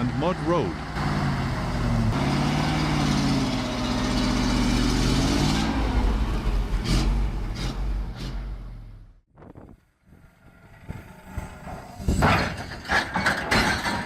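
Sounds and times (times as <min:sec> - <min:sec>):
truck engine labouring: 0:00.0 - 0:14.0.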